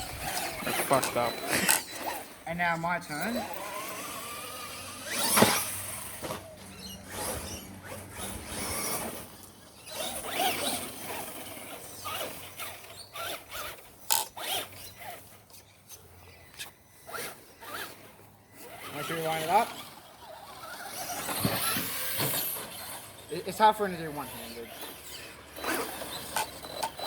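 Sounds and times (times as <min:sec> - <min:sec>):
electric motor whining: 0:00.0 - 0:15.4, 0:16.6 - 0:27.0.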